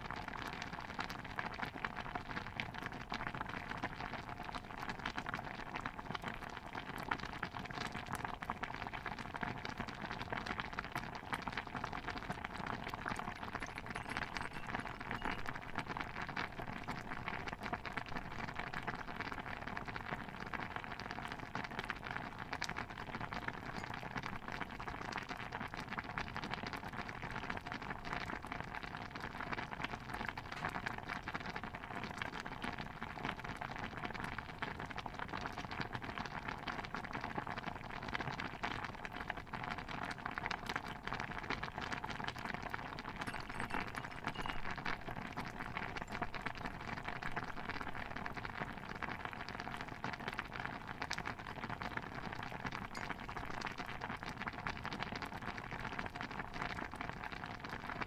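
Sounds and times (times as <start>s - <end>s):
dense patter of pops and crackles: 0.0s - 58.0s.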